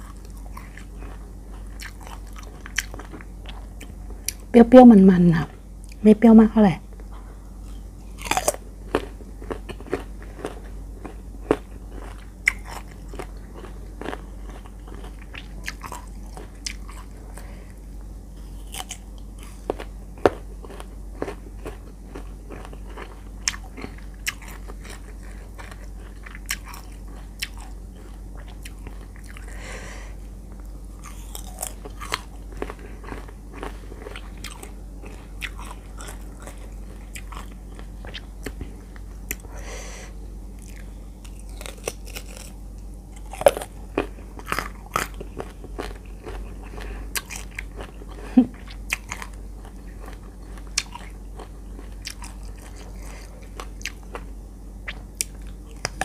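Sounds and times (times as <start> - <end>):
crunching bites and chewing: 0.0 - 4.5, 7.6 - 29.6, 30.5 - 39.5, 40.5 - 56.0.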